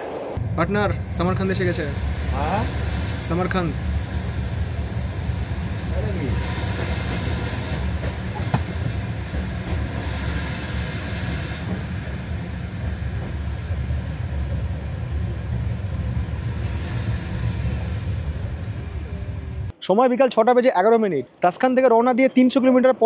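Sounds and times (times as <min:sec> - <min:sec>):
train rumbling on rails: 0:00.0 - 0:19.7.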